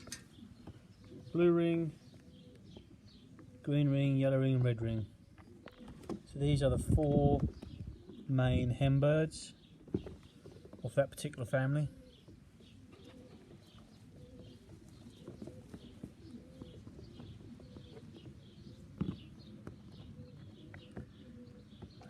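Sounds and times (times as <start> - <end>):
pigeons cooing softly: 0.0 - 22.0.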